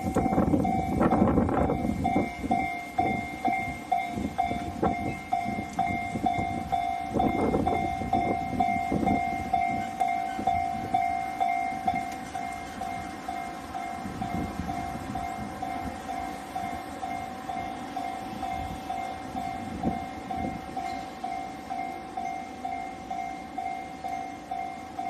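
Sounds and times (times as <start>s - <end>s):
level-crossing bell ringing: 0.0s - 25.0s
train passing on tracks: 0.0s - 25.0s.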